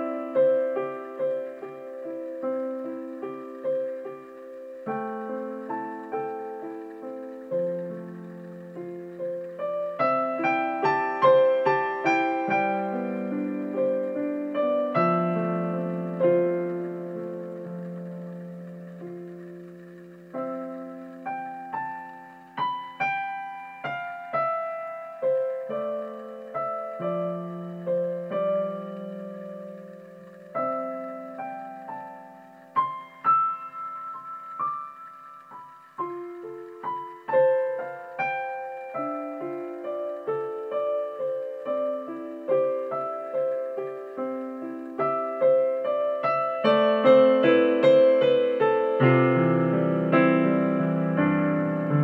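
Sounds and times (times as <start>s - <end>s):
solo piano melody: 0.0s - 52.0s.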